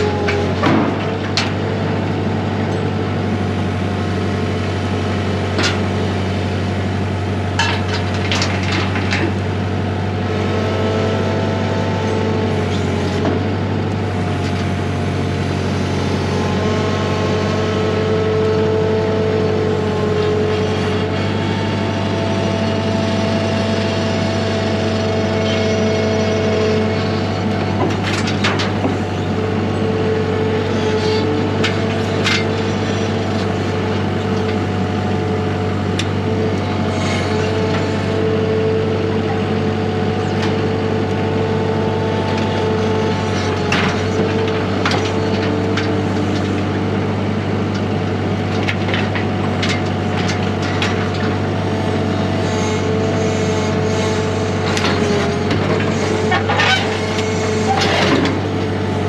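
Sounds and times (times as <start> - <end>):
engine-like drone: 0.0 - 59.0.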